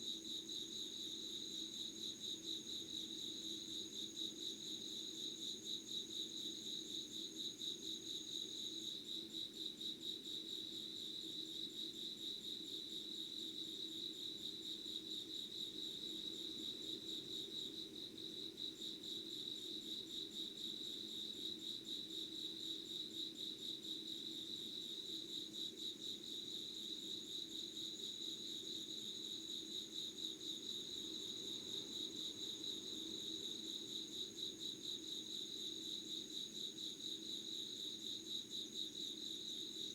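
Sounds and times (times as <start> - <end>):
faint high insect trill: 0.0 - 39.9.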